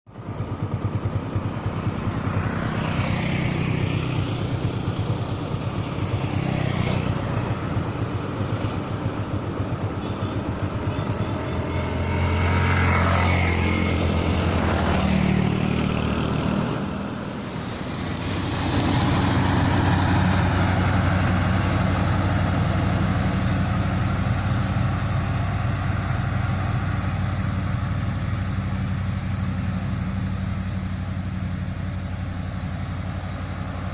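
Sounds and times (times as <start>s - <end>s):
diesel truck engine under load: 0.1s - 33.9s
vehicles passing by: 0.1s - 33.9s.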